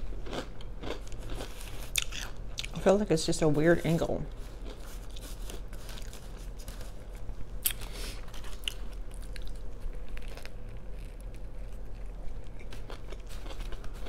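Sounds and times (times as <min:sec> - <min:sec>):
person chewing crunchy food: 0:00.0 - 0:02.8, 0:04.3 - 0:14.0.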